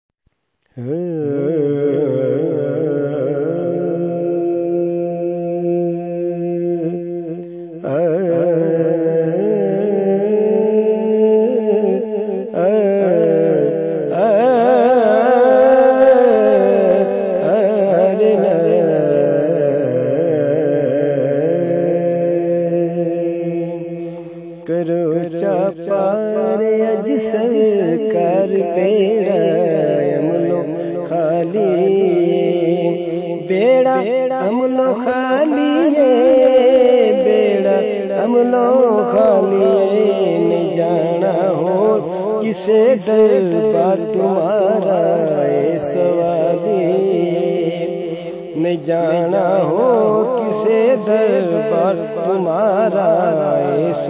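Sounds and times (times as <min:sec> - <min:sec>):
man singing with ornamented vocals: 0:00.0 - 0:54.0.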